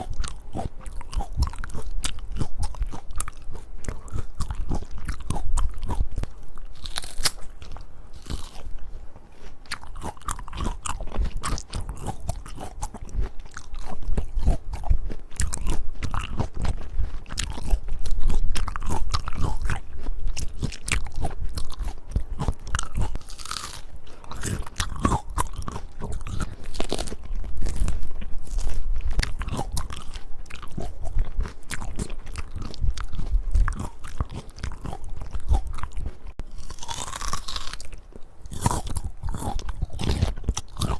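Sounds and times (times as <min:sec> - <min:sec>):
biting and chewing fruit: 0:00.0 - 0:40.9.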